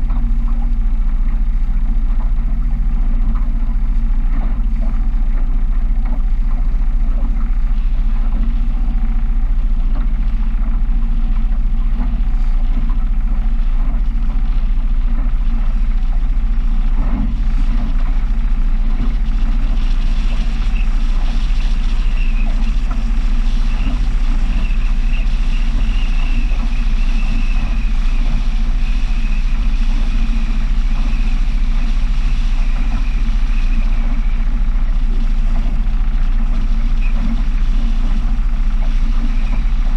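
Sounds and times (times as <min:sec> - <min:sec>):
powerboat engine rumbling: 0:00.0 - 0:39.9
steady high whine: 0:00.0 - 0:39.9.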